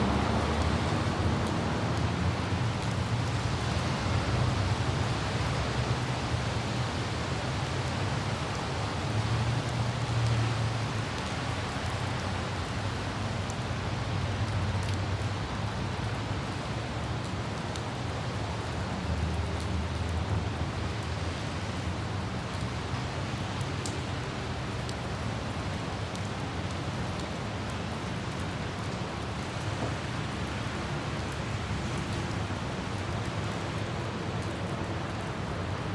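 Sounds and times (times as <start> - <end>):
car driving on wet road: 0.0 - 35.9
light rain hiss: 0.0 - 35.9.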